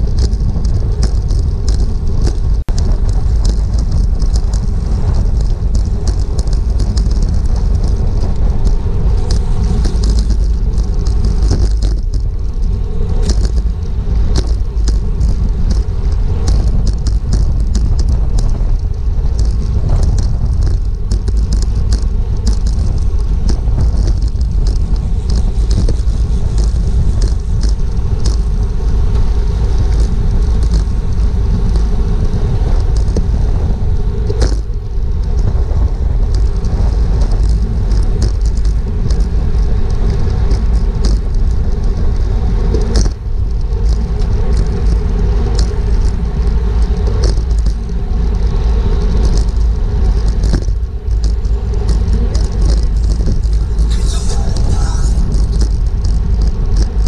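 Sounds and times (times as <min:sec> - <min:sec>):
bicycle clicks and ticks: 0:00.0 - 0:57.0
bicycle tyre noise: 0:00.0 - 0:57.0
wind rumble on microphone: 0:00.0 - 0:57.0.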